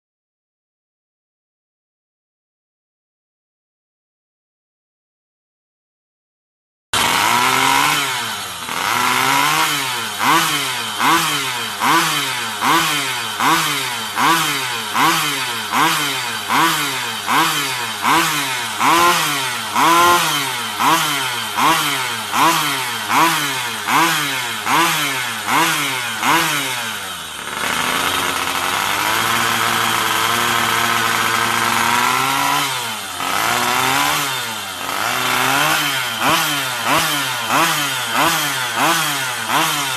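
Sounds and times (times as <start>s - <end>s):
small motorbike engine revving: 7.0s - 39.9s.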